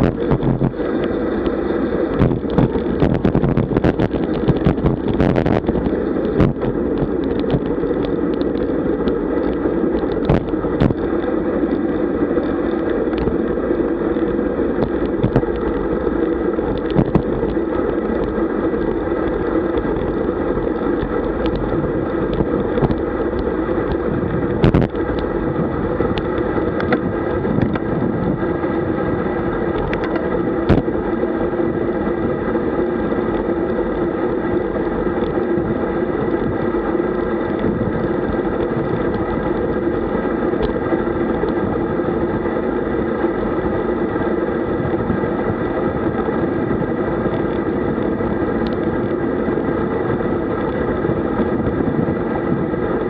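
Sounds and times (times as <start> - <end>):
tyre and road noise: 0.0 - 53.0
wind buffeting microphone: 0.0 - 53.0.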